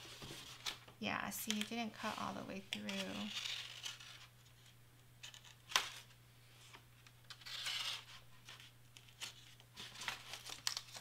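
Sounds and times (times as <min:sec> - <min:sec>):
paper rustling: 0:01.5 - 0:11.0.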